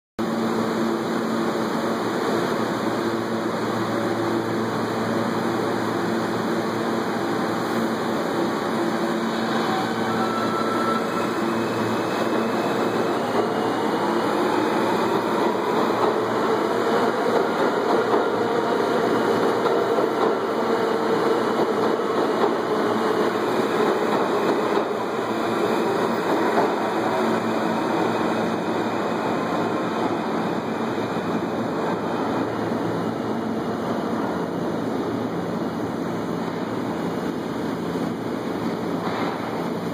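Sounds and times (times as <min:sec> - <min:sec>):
subway train wheels on rail: 0:00.2 - 0:39.9.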